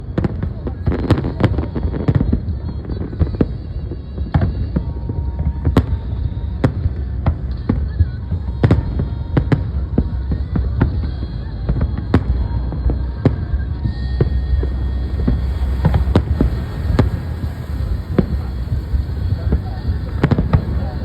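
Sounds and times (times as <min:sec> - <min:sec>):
continuous low rumble: 0:00.0 - 0:21.0
fireworks bangs: 0:00.0 - 0:21.0.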